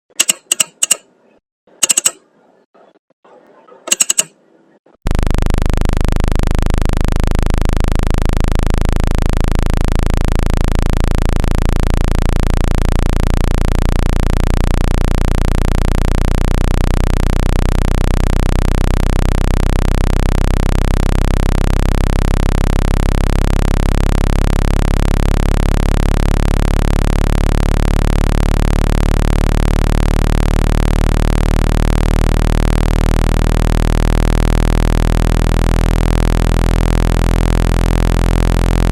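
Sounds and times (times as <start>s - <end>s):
low electronic hum with hiss: 5.1s - 38.9s.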